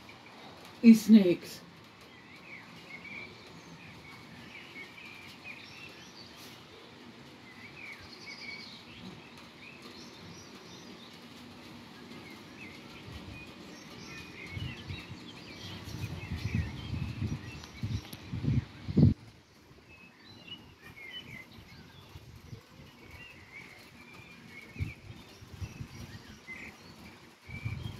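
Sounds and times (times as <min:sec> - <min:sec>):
birds chirping and twittering: 0:00.0 - 0:27.9
outdoor background hiss: 0:00.0 - 0:27.9.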